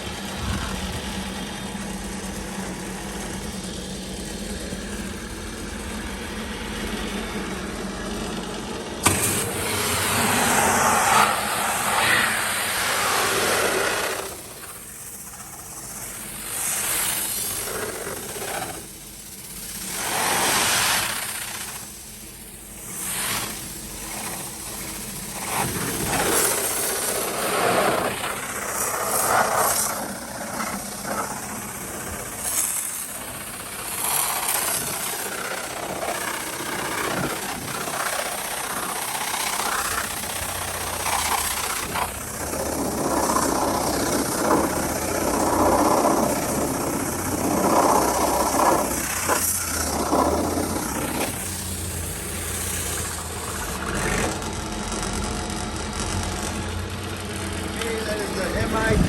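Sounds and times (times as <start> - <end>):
pressure washer spraying water: 0.0 - 59.0
steady low hum: 0.0 - 59.0.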